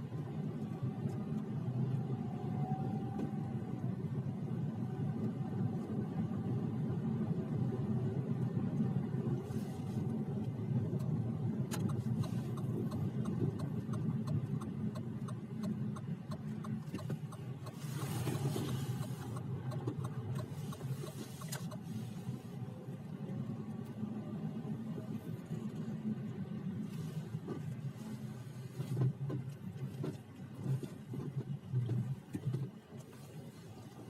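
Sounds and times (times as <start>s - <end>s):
road rumble: 0.0s - 34.0s.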